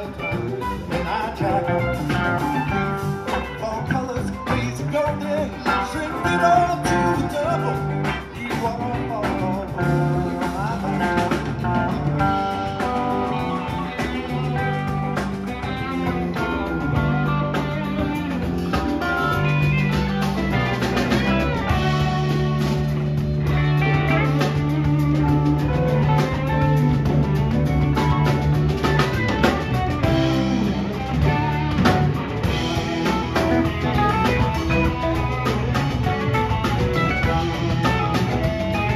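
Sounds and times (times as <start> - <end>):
drum kit: 0.0 - 38.9
electric bass: 0.0 - 38.9
electric guitars: 0.0 - 38.9.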